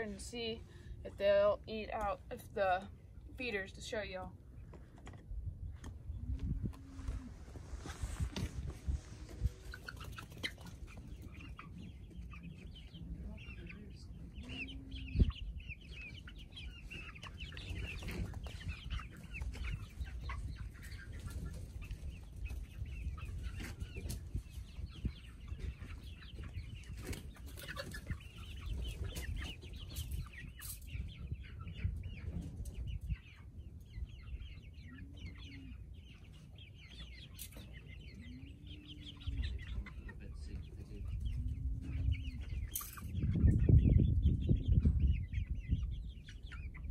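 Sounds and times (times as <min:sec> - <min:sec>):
hens clucking: 0:00.0 - 0:46.9.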